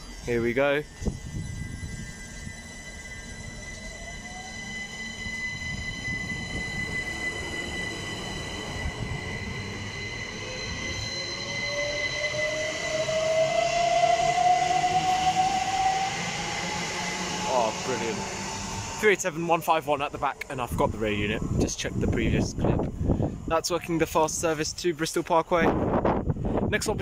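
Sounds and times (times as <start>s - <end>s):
electric train motors whining: 0.0s - 24.6s.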